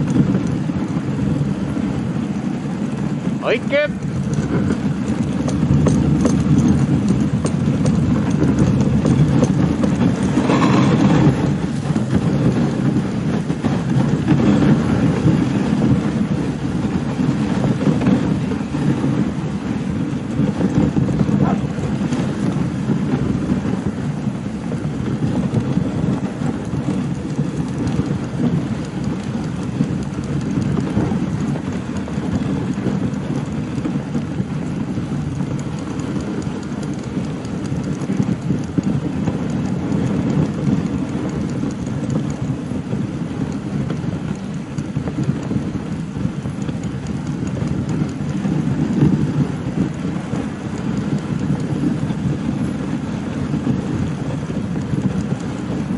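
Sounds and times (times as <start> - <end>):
sled rattling: 0.0 - 55.9
sled runners sliding over snow: 0.0 - 55.9.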